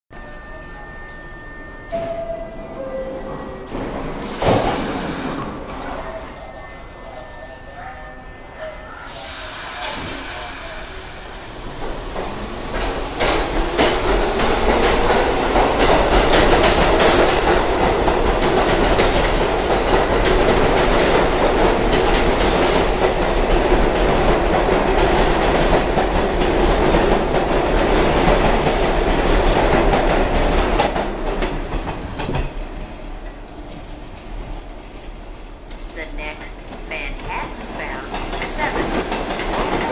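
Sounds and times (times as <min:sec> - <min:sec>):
subway train rumbling past: 0:00.2 - 0:39.9.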